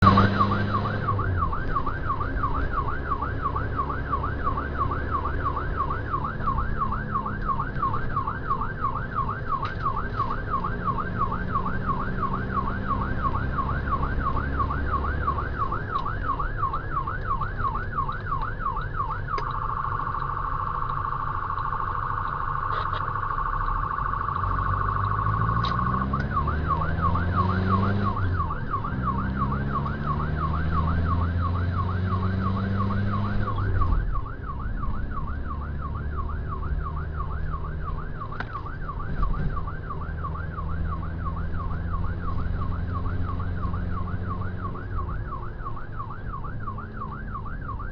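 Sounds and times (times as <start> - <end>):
electronic siren cycling: 0.0 - 47.9
vehicle engine: 0.0 - 47.9.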